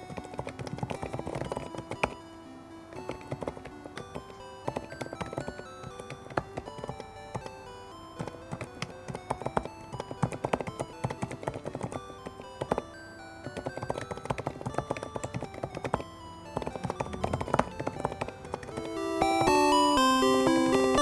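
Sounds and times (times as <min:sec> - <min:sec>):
background music: 0:00.0 - 0:21.0
soft keyboard key clicks: 0:02.9 - 0:20.0.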